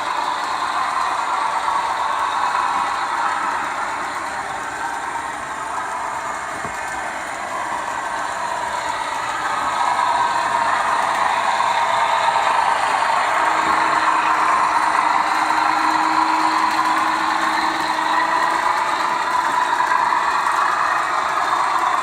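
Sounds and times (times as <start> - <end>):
model trains rolling: 0.0 - 22.0.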